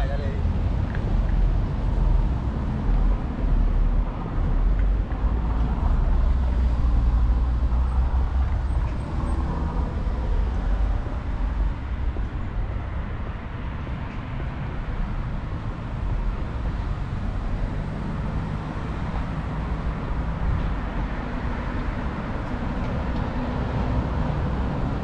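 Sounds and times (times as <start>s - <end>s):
passing cars rumble: 0.0s - 25.0s.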